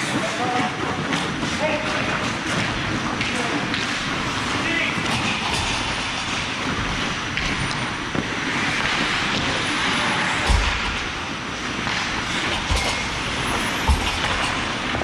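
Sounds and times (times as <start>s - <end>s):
ice skates scraping on rink: 0.0s - 15.0s.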